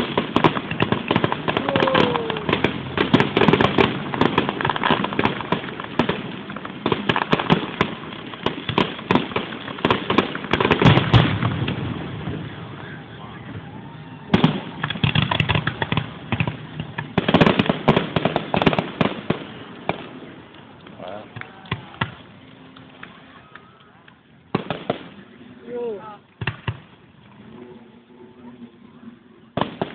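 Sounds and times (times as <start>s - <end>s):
fireworks bursting with crackling: 0.0s - 27.6s, 28.5s - 29.9s.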